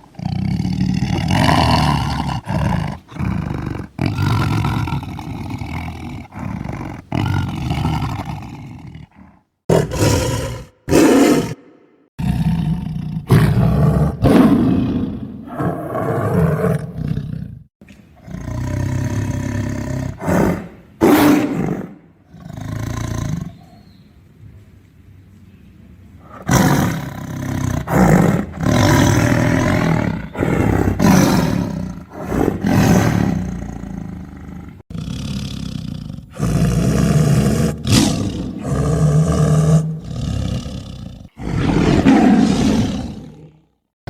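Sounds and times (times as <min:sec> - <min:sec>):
tiger roaring and growling: 0:00.0 - 0:23.8, 0:26.2 - 0:43.8.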